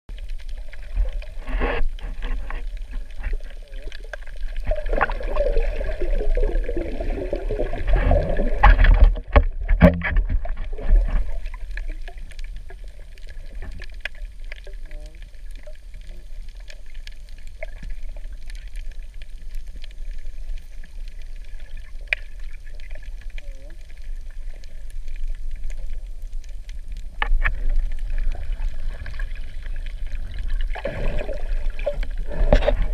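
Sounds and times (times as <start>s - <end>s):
faint underwater clicks: 0.1s - 32.9s
low underwater rumble: 0.1s - 32.9s
muffled underwater rushing and bubbling: 0.1s - 32.9s.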